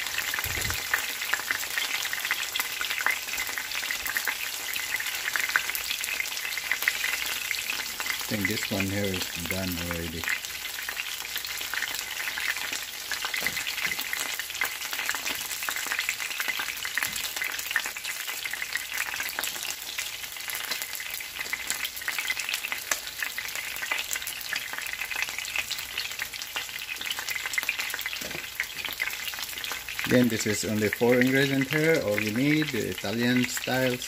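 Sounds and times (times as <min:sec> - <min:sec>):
meat sizzling in oil: 0:00.0 - 0:34.0.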